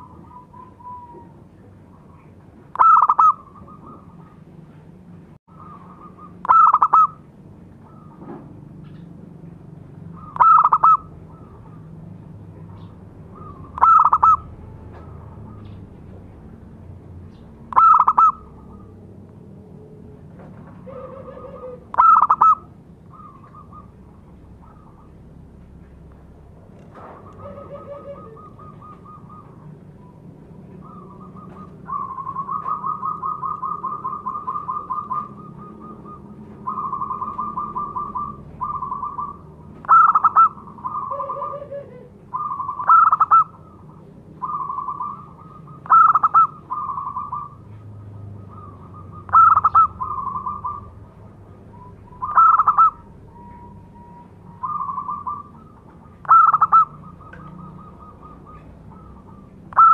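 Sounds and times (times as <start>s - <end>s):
dove cooing: 0.0s - 4.5s, 5.5s - 8.4s, 10.0s - 15.8s, 17.7s - 25.7s, 26.8s - 59.9s.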